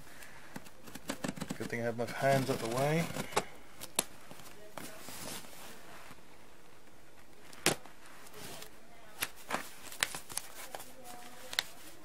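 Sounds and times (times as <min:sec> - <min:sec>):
cardboard and tape rustling: 0:00.2 - 0:06.2, 0:07.2 - 0:12.0.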